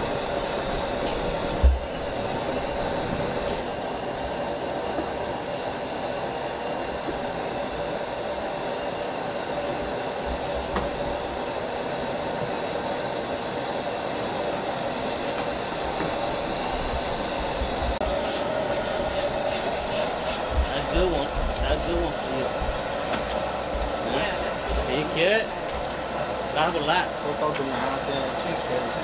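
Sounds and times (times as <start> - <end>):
machine rumble and hiss: 0.0 - 29.0.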